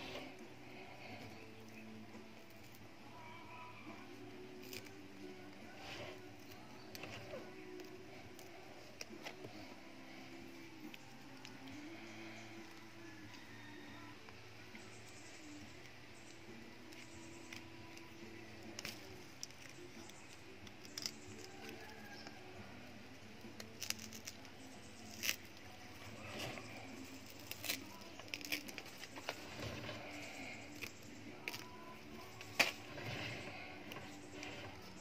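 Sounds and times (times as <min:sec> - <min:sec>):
knife cutting and peeling plant fibre: 0:00.0 - 0:35.0.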